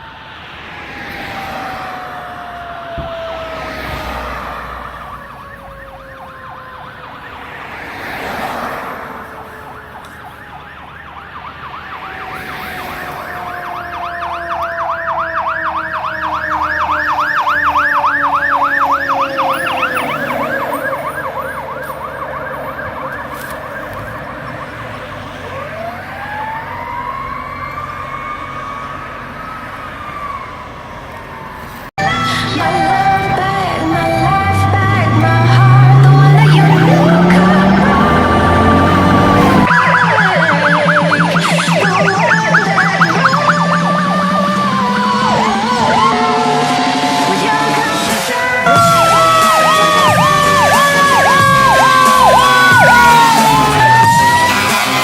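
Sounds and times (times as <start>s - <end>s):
siren wail: 0.0s - 55.0s
siren yelp: 0.0s - 55.0s.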